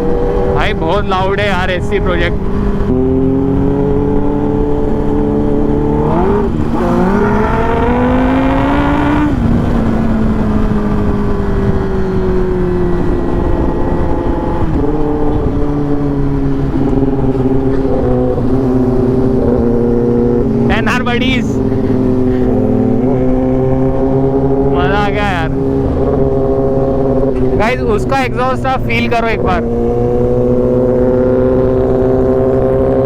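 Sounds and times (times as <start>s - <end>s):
motorcycle engine: 0.0s - 33.0s
wind rush: 0.0s - 33.0s.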